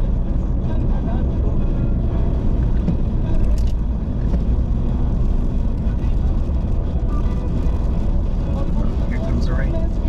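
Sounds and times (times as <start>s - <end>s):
car cabin road noise: 0.0s - 10.0s.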